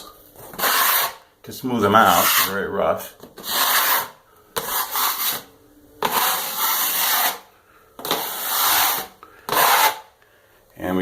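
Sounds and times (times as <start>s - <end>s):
drywall knife scraping wall: 0.4s - 1.2s, 1.8s - 10.1s.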